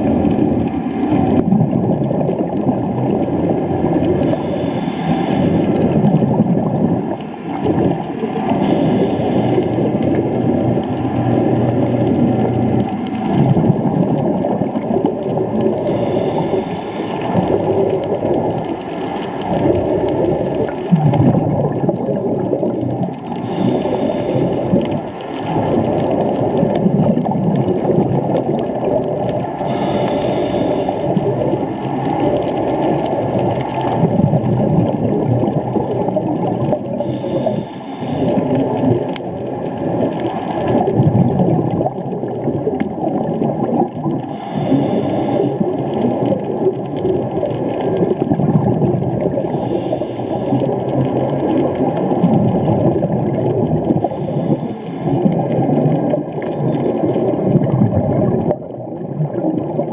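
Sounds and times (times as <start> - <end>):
exhaled bubbles from regulator: 0.0 - 59.9
muffled underwater rumble: 0.0 - 59.9.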